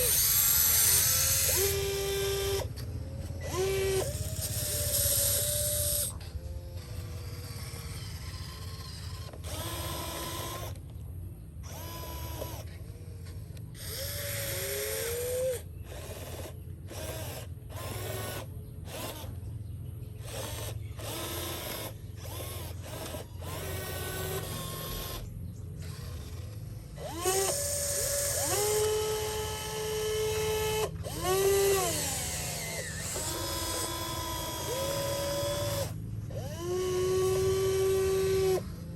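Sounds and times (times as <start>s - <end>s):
small electric motor whining: 0.0s - 19.5s, 20.1s - 38.9s.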